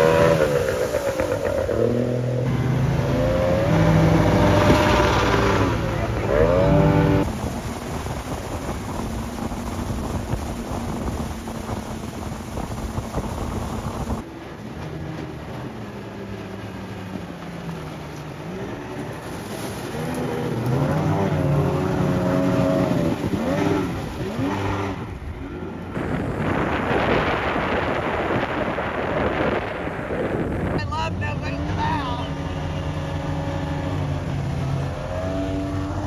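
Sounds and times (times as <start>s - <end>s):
boat engine passing by: 0.0s - 36.0s
outboard engine drone: 0.0s - 36.0s.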